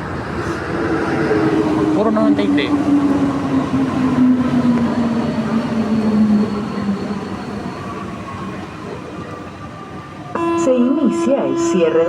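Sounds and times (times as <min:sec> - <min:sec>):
train running noise: 0:00.0 - 0:12.0.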